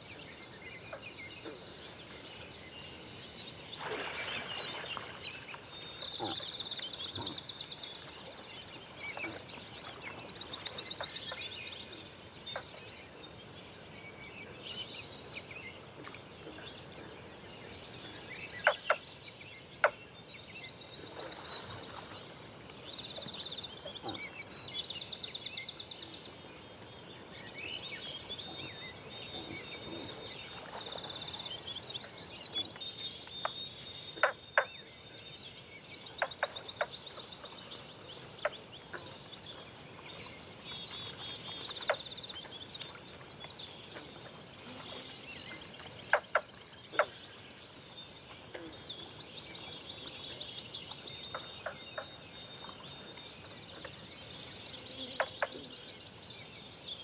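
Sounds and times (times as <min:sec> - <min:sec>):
songbirds trilling and chirping: 0:00.0 - 0:57.0.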